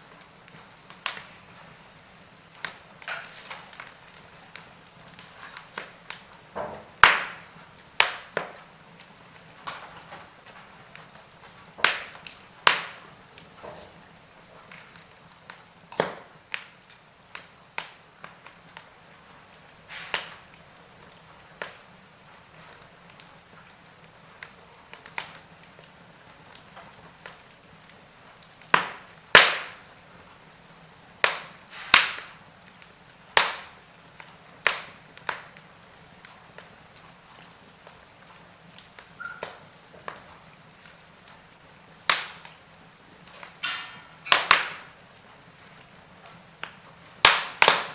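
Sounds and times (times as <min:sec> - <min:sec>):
faint steady hiss: 0:00.0 - 0:47.9
wood fire crackling: 0:00.0 - 0:47.9.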